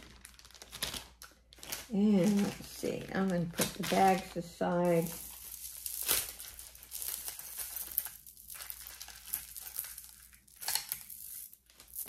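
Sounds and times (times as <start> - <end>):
beads rustling and clicking: 0.0 - 12.0
plastic bags crinkling: 0.0 - 12.0.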